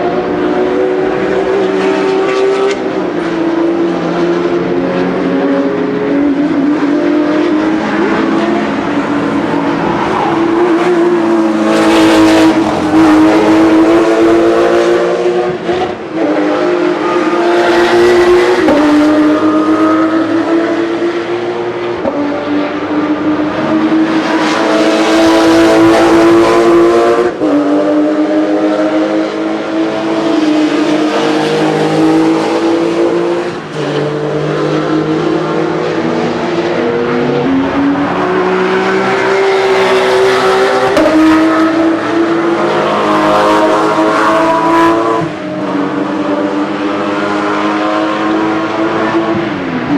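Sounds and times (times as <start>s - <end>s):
sports car engine upshifting: 0.0s - 49.9s.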